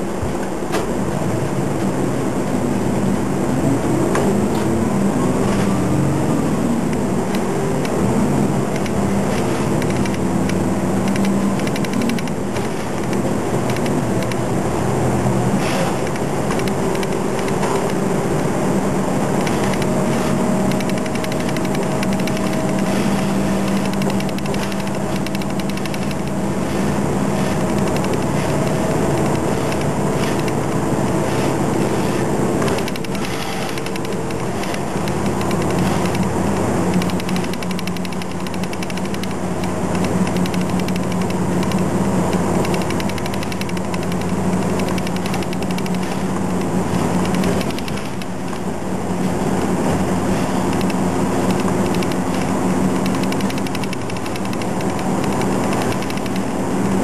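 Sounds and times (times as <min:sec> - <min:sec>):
bus engine: 0:00.0 - 0:57.0
road noise: 0:00.0 - 0:57.0.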